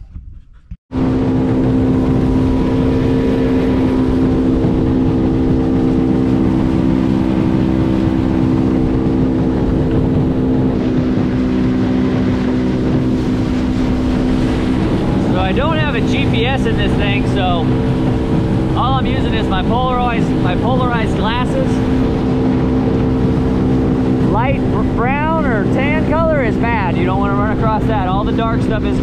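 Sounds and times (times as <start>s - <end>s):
outboard motor running: 0.9s - 29.0s
rush of wind and water: 0.9s - 29.0s.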